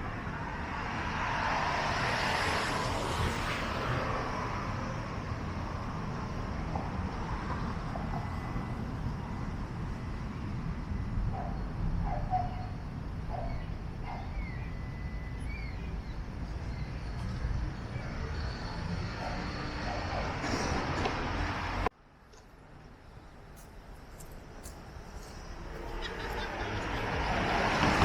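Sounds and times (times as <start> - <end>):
low rumble of traffic: 0.0 - 28.0.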